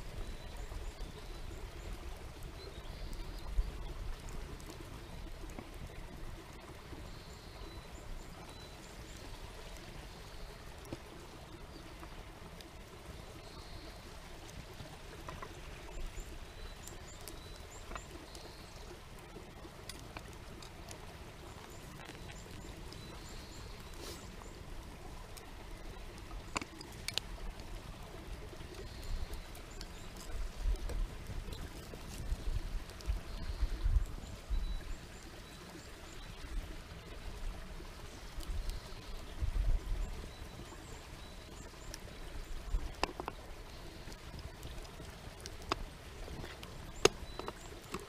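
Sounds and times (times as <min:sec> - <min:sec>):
stream water flowing: 0:00.0 - 0:48.0.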